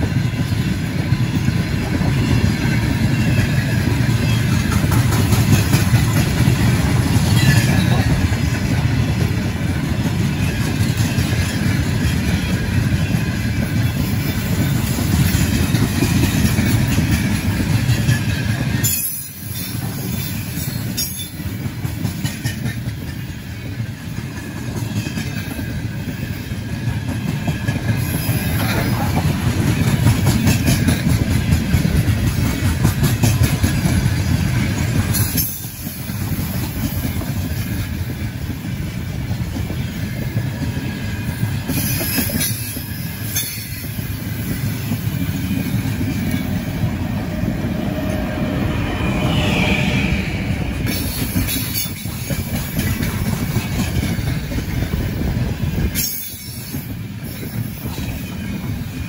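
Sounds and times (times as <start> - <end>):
wheels clattering on rails: 0.0 - 49.2, 50.1 - 59.0
train rumbling past: 0.0 - 59.0.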